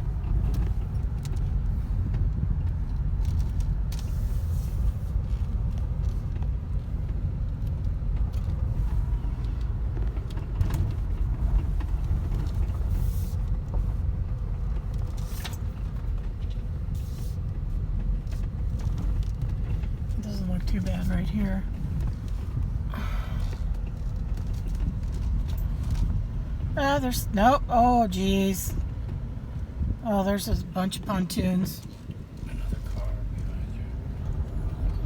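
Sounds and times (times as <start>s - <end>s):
car engine and tyres rumbling: 0.0s - 35.0s.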